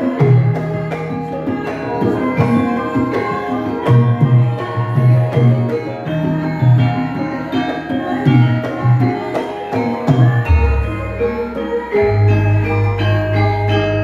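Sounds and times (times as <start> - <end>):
gamelan ensemble playing: 0.0 - 14.0.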